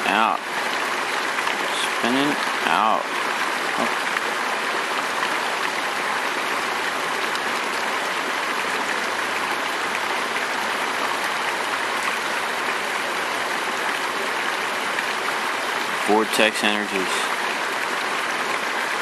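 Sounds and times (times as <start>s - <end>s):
river water flowing: 0.0s - 19.0s.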